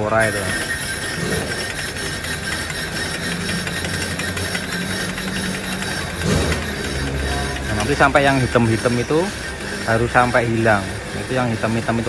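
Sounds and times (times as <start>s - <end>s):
brake disc lathe humming: 0.0s - 12.0s
fast ticking of tool on metal: 0.0s - 12.0s.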